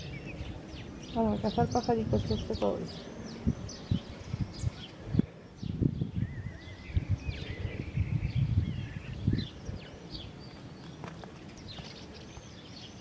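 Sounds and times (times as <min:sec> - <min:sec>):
small birds chirping: 0:00.0 - 0:13.0
wavering bird song: 0:00.0 - 0:13.0.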